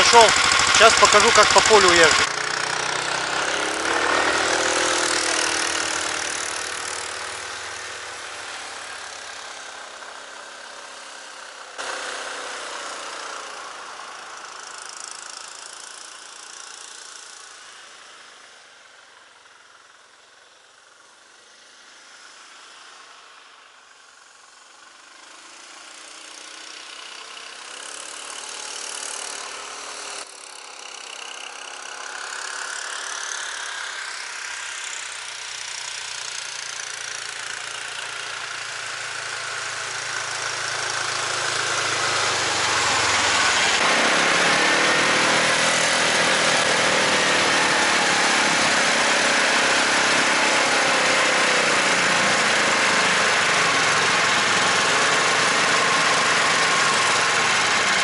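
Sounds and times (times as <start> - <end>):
snowmobile engine driving: 0.0 - 17.7, 24.5 - 58.0.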